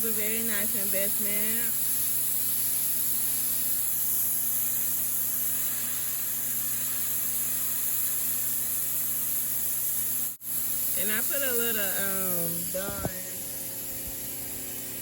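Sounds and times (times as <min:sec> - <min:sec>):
motor and pump hum: 0:00.0 - 0:15.0
pressure washer water jet hiss: 0:00.0 - 0:15.0.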